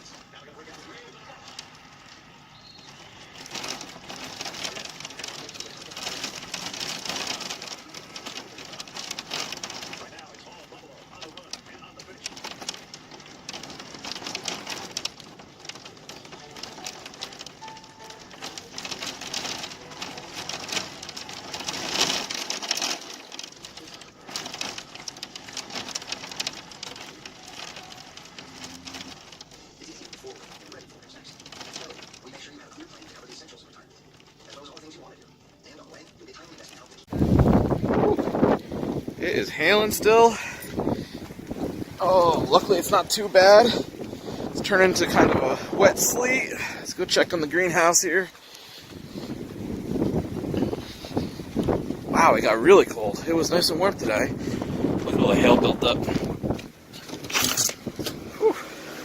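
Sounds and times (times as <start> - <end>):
hail falling hard: 0.0 - 59.0.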